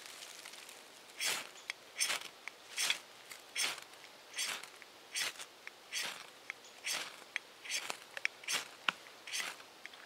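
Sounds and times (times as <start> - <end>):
knife scraping wood: 1.2 - 9.6.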